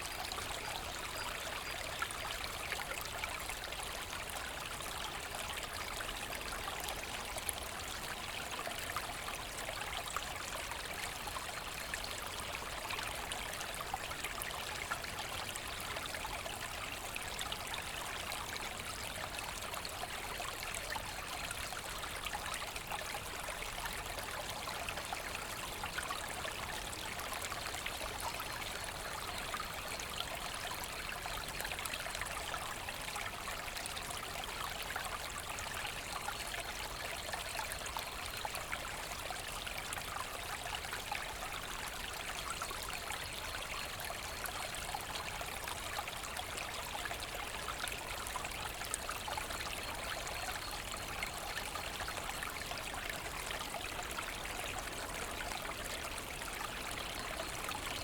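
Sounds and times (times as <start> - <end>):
brook babbling over stones: 0.0 - 58.0.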